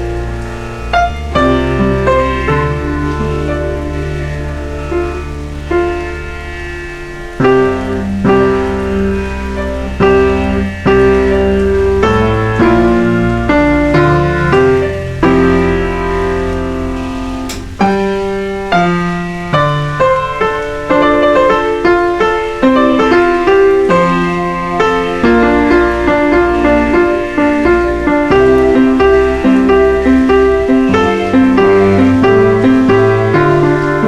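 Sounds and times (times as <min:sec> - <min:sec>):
slow piano chords: 0:00.0 - 0:34.0.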